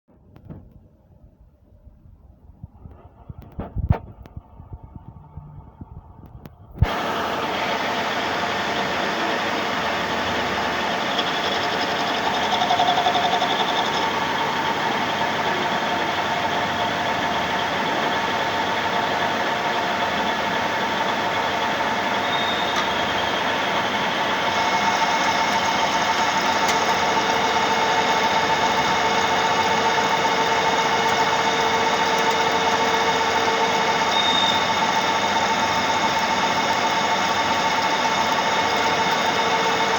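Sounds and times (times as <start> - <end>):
metal lathe whirring: 6.8 - 39.9.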